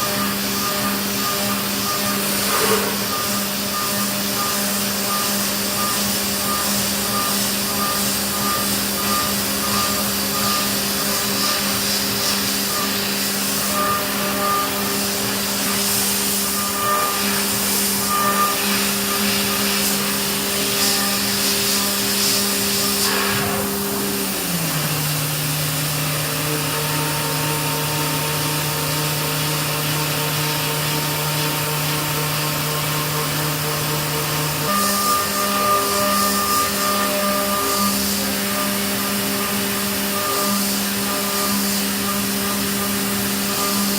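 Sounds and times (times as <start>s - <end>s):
milling machine spindle hum: 0.0s - 43.9s.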